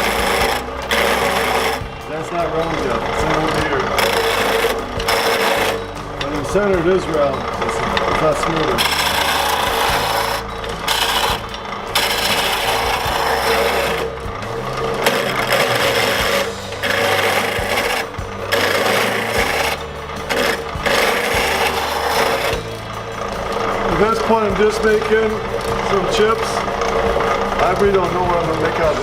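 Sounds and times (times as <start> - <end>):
gouge rasping on lathe wood: 0.0 - 29.0
lathe motor hum: 0.0 - 29.0.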